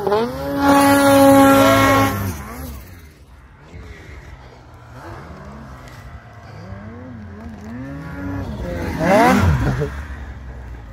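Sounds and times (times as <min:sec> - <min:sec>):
snowmobile engine revving: 0:00.0 - 0:10.9.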